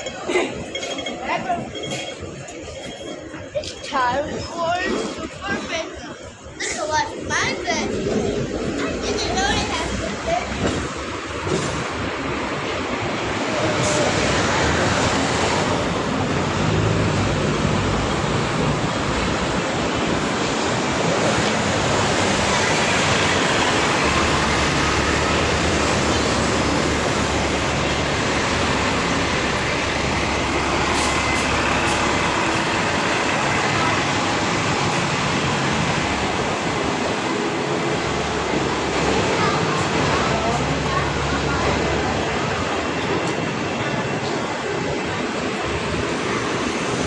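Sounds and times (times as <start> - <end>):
heavy vehicle low rumble: 6.2 - 47.0
road traffic hiss: 6.4 - 47.0.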